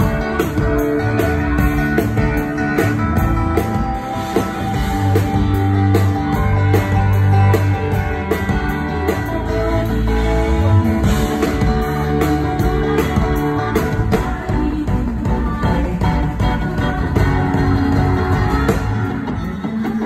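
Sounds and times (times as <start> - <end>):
electric guitar: 0.0 - 20.0
live rock band playing: 0.0 - 20.0.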